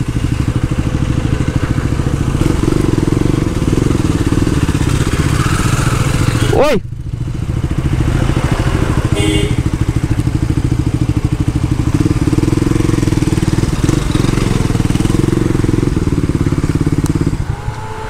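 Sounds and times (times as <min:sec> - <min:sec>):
motorcycle engine at low revs: 0:00.0 - 0:18.0.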